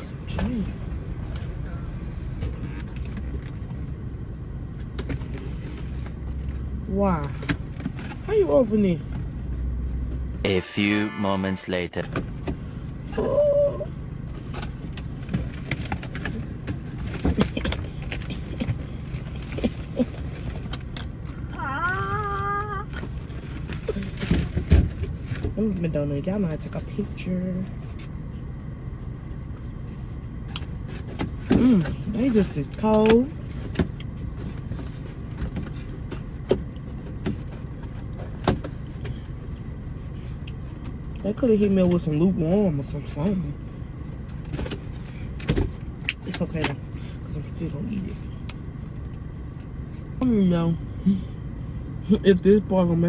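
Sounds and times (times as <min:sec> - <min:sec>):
car engine rumble in cabin: 0:00.0 - 0:10.6, 0:12.0 - 0:53.0.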